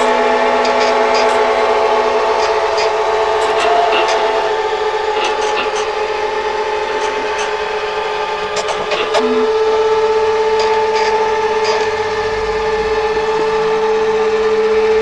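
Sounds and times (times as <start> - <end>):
office machine motor whine: 0.0 - 15.0.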